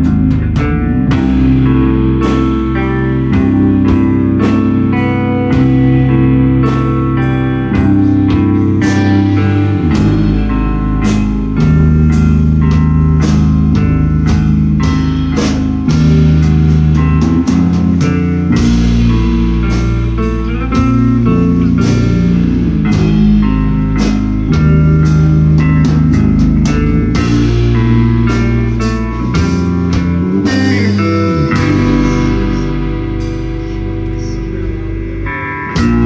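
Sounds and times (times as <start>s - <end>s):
drum kit hits: 0.0s - 34.4s, 35.7s - 36.0s
bass line: 0.0s - 36.0s
electric guitar chords: 0.0s - 36.0s.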